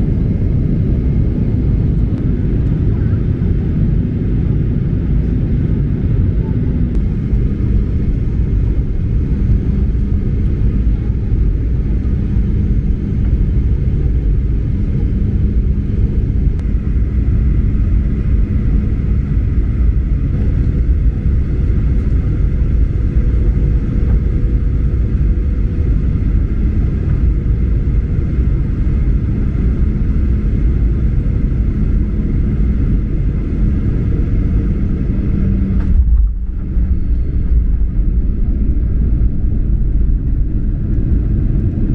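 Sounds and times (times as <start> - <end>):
airliner cabin engine rumble: 0.0 - 41.9
faint steady hum: 0.0 - 41.9.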